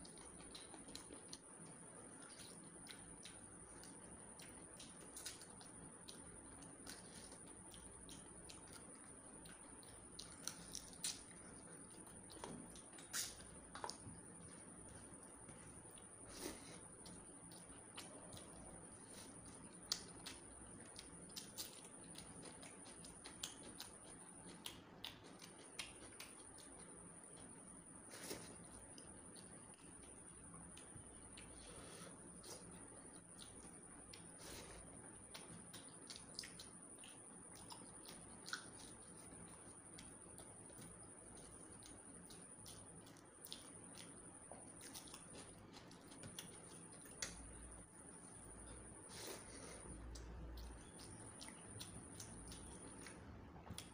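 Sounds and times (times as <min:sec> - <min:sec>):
faint high-pitched whine: 0:00.0 - 0:53.9
open mouth chewing: 0:02.1 - 0:15.0, 0:15.9 - 0:47.8, 0:48.6 - 0:53.9.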